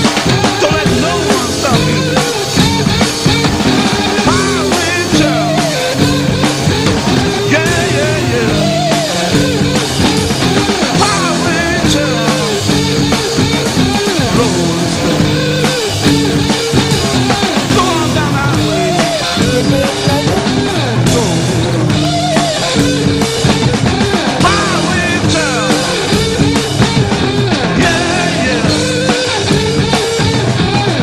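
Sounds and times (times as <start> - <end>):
bending lead guitar line: 0.0 - 31.0
distorted electric guitar: 0.0 - 31.0
drum kit: 0.0 - 31.0.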